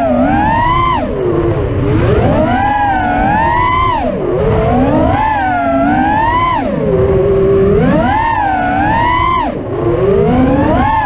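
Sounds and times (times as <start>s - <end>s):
rushing air: 0.0s - 10.6s
quadcopter motors whining: 0.0s - 11.0s.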